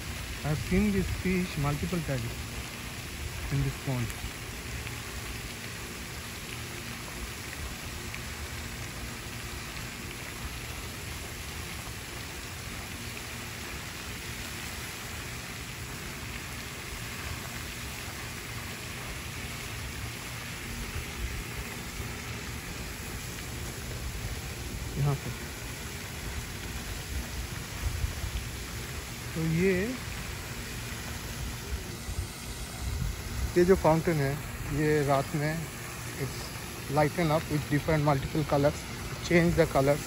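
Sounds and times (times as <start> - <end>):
fountain spray splashing on water: 0.0 - 40.0.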